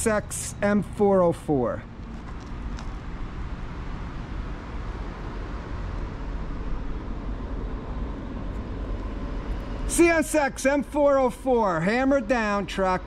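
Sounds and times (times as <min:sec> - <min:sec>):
diesel locomotives at full throttle: 0:00.0 - 0:13.0.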